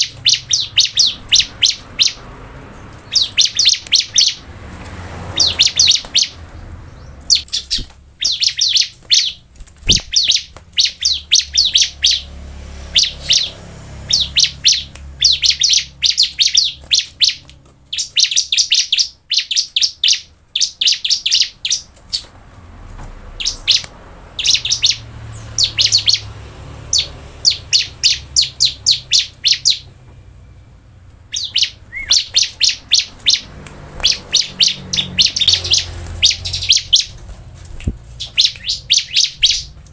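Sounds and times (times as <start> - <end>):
bird singing rapid chattering phrases: 0.0 - 39.9.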